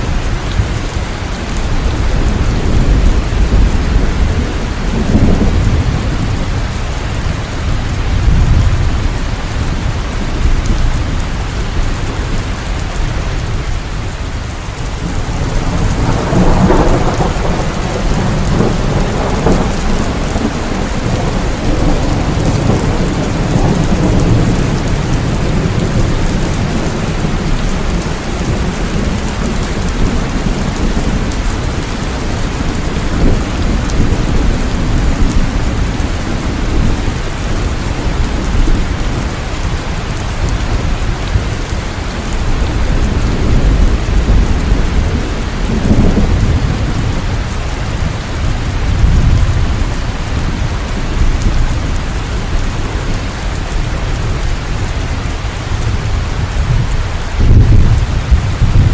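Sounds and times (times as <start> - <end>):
heavy rain: 0.0 - 58.9
thunder rumbling: 0.0 - 58.9.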